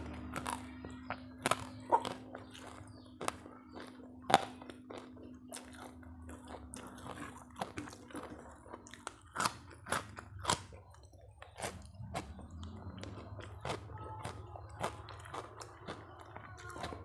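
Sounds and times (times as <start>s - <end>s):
person chewing crisp food: 0.0s - 17.0s.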